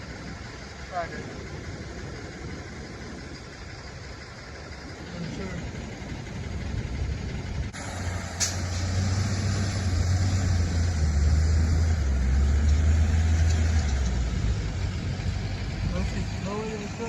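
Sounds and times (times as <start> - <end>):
tow truck engine drone: 0.0 - 17.0.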